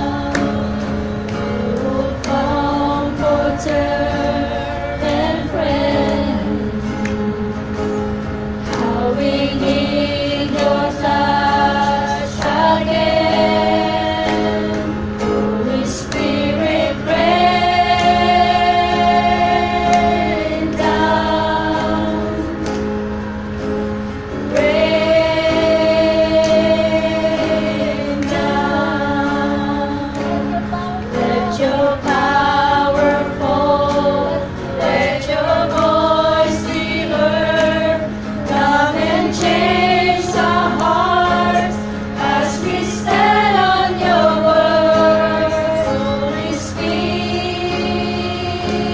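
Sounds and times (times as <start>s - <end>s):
women singing worship song: 0.0s - 7.1s, 8.6s - 22.9s, 24.3s - 48.9s
strummed acoustic guitar: 0.0s - 48.9s.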